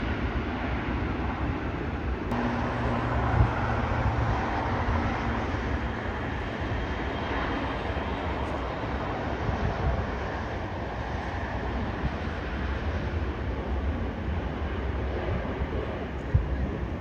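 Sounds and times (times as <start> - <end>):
jet engine rumble and hiss: 0.0 - 17.0.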